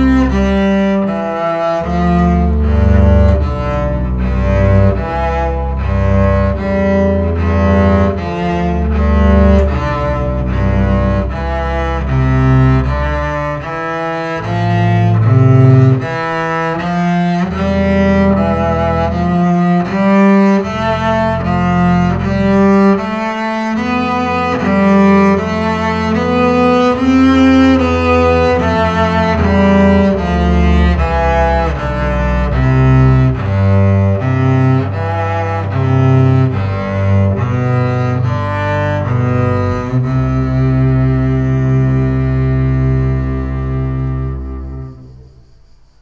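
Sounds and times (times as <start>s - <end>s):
bowed double basses: 0.0s - 46.0s.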